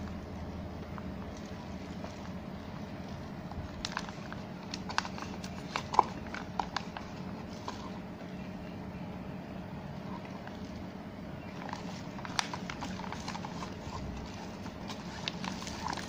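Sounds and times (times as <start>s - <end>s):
plastic packaging crinkling: 0.0s - 8.5s, 10.0s - 16.0s.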